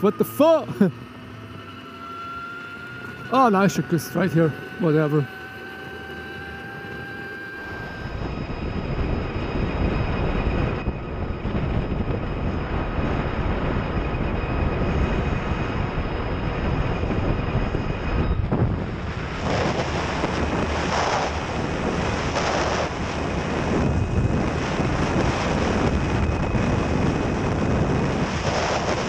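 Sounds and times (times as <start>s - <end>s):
faint high whine: 0.0s - 29.0s
motorcycle tyre noise: 0.0s - 29.0s
wind rushing over microphone: 0.0s - 29.0s.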